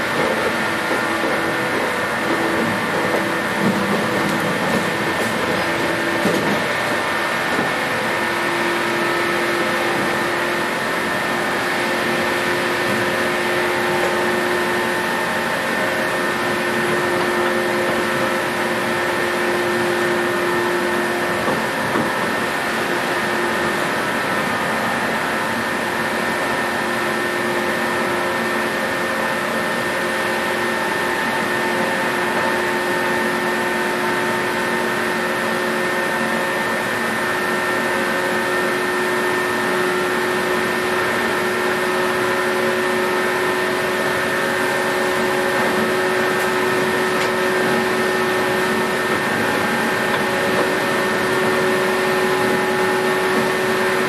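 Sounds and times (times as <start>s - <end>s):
traction motor whine: 0.0s - 54.0s
train rolling noise: 0.0s - 54.0s.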